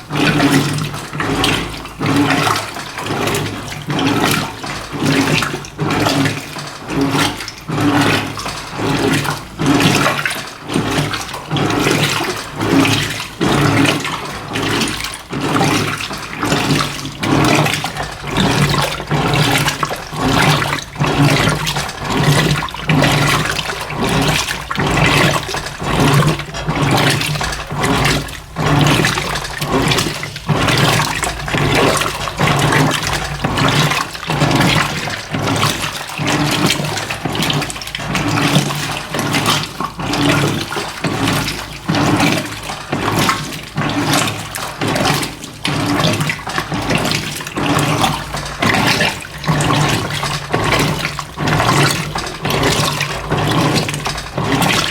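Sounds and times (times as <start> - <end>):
water sloshing in washing machine: 0.0 - 54.9.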